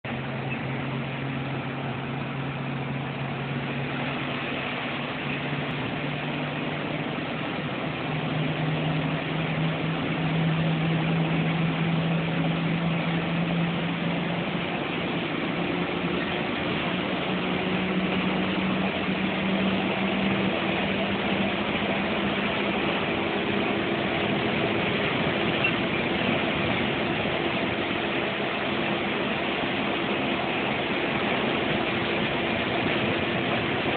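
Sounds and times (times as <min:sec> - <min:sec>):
bus engine running: 0:00.0 - 0:33.9
road and cabin noise: 0:00.0 - 0:33.9.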